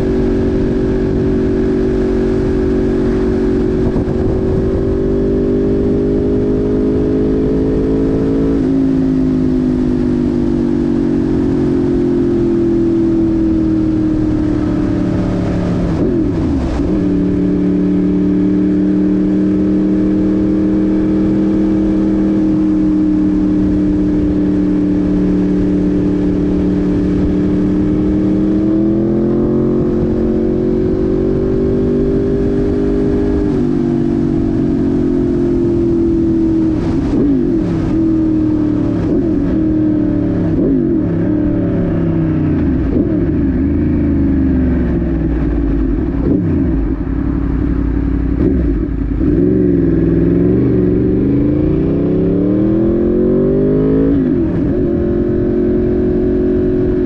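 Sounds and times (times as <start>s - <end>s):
motorcycle engine running: 0.0s - 18.2s, 22.4s - 57.0s.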